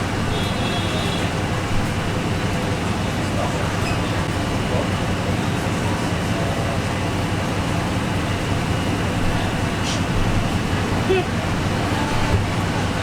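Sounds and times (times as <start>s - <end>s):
rumble of train wheels: 0.0s - 13.0s
train engine drone: 0.0s - 13.0s.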